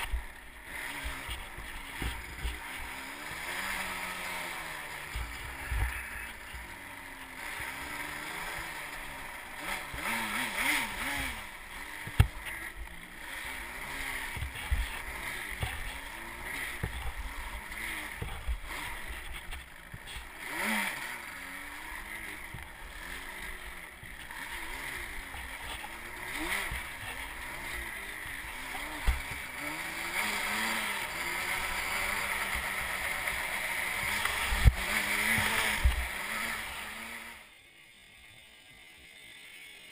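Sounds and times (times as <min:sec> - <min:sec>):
quad bike engine revving: 0:00.0 - 0:37.6
rattle: 0:00.0 - 0:39.9.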